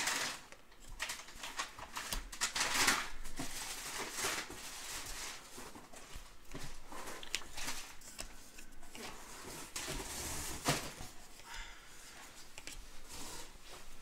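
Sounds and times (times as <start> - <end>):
trading cards shuffling: 0.0 - 11.5, 12.2 - 14.0.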